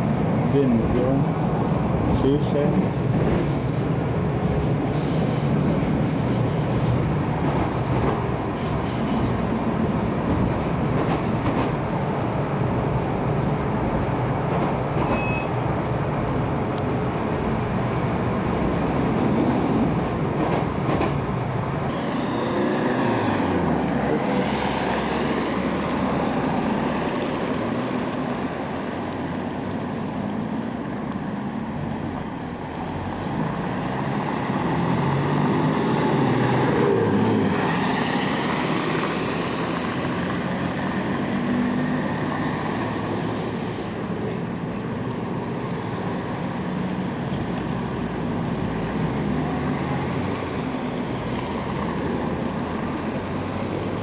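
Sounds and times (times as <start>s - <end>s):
tram motors and wheels rumbling: 0.0s - 54.0s.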